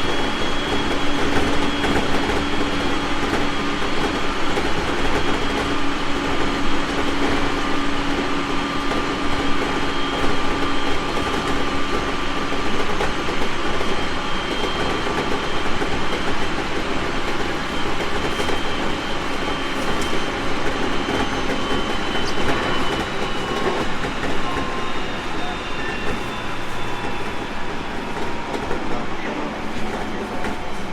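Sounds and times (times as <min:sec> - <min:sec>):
train wheels rumbling on rail: 0:00.0 - 0:30.9.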